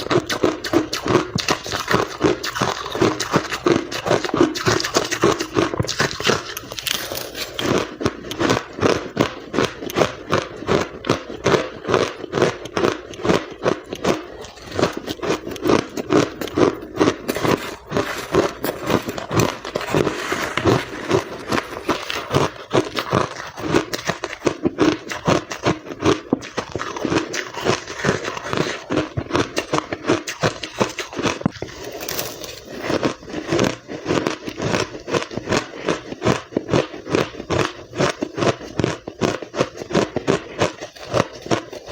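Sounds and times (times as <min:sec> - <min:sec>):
chewing ice crunches: 0:00.0 - 0:41.9.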